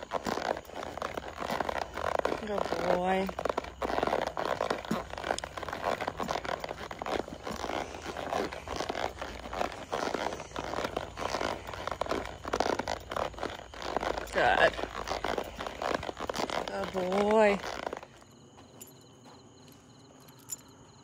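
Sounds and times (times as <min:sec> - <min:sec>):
horse hoofbeats on dirt: 0:00.0 - 0:20.6.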